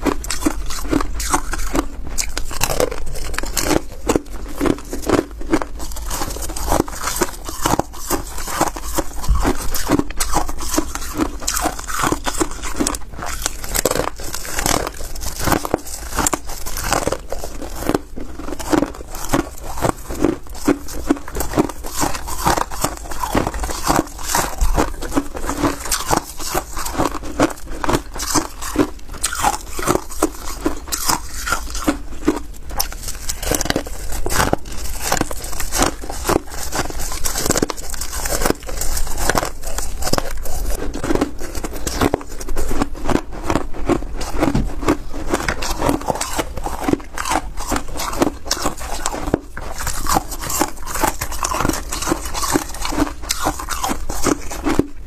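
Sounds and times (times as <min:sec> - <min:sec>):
ice crunching in mouth: 0:00.0 - 0:55.0.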